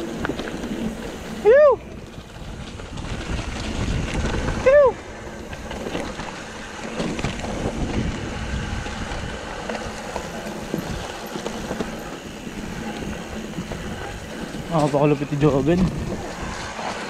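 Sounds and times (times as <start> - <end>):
bike rattling: 0.0 - 17.0
tyres rumbling on dirt: 0.0 - 17.0
wind on microphone: 0.0 - 17.0.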